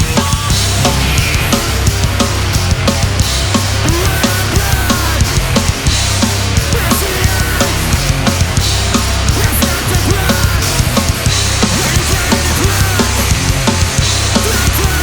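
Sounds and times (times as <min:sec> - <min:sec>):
bass guitar: 0:00.0 - 0:15.0
distorted guitars: 0:00.0 - 0:15.0
drum kit hit rapidly: 0:00.0 - 0:15.0.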